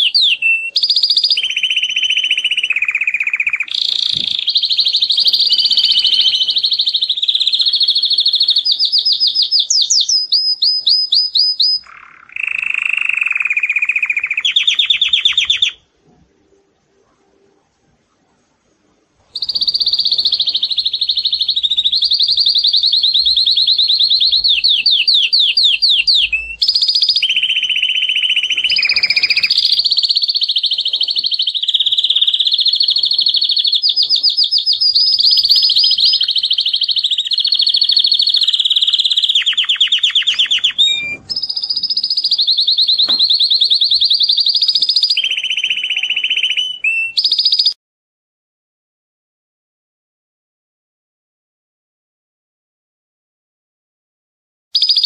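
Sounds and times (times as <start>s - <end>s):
canary singing trills: 0.0s - 15.9s, 19.3s - 47.8s, 54.8s - 55.0s.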